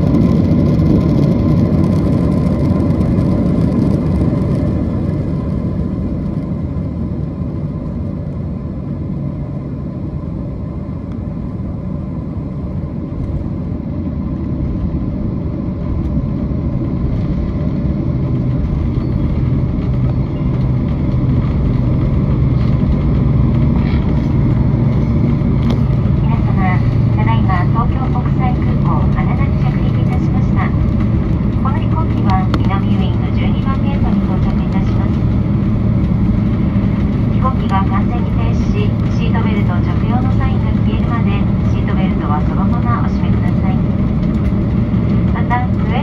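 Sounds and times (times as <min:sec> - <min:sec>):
jet engine and runway rumble: 0:00.0 - 0:46.0
low steady hum: 0:00.0 - 0:46.0.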